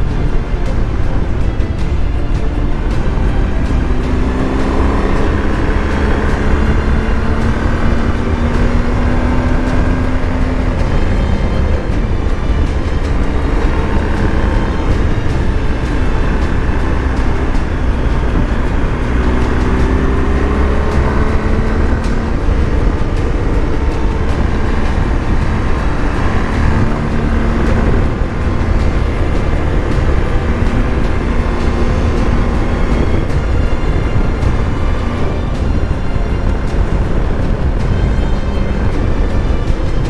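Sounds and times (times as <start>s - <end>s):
motorcycle engine rumble: 0.0s - 40.0s.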